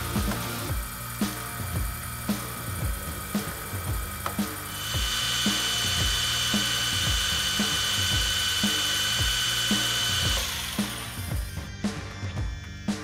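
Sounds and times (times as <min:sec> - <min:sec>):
metal lathe cutting: 0:00.0 - 0:11.6
steady high whine: 0:00.0 - 0:12.0
music with steady beat: 0:00.0 - 0:13.0.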